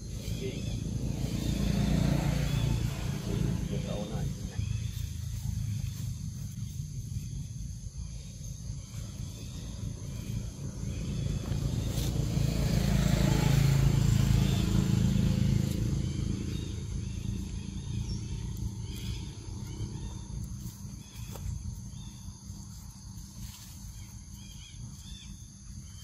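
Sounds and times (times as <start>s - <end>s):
high insect drone: 0.0s - 26.0s
vehicle engine passing: 0.0s - 26.0s.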